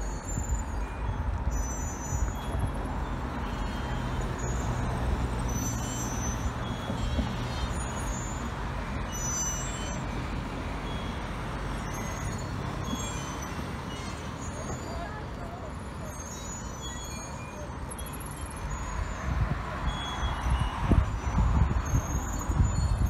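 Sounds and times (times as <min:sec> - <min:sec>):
passing traffic hum: 0:00.0 - 0:23.0.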